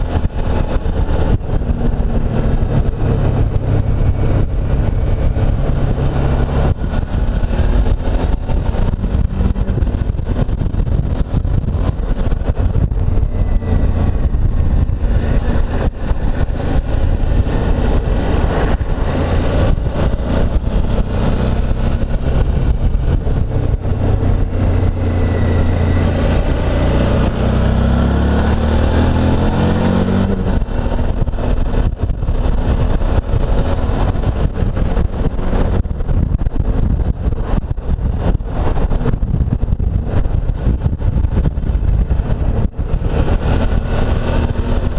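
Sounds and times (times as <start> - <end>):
motorcycle engine running: 0.0 - 44.9
rushing air: 0.0 - 44.9.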